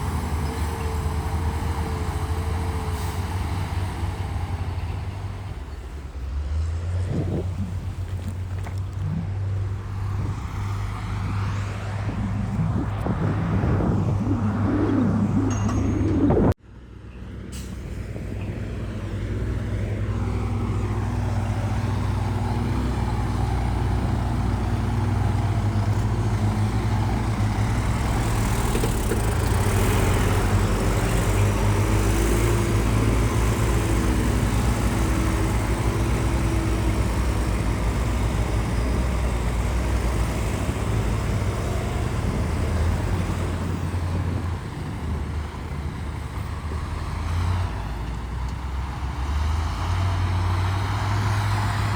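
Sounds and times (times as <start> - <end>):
heavy diesel engine rumbling: 0.0 - 16.6, 17.3 - 51.9.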